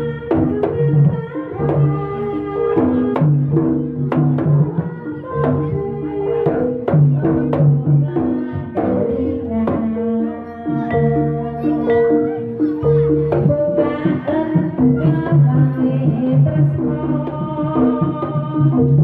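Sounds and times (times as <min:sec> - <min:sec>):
tuned percussion melody: 0:00.0 - 0:19.0.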